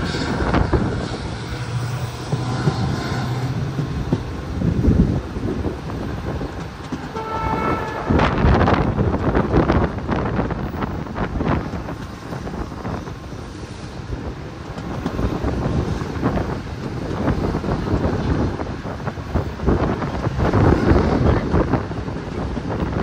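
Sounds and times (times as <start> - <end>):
train rumble: 0.0 - 23.0
wind buffeting microphone: 0.0 - 23.0.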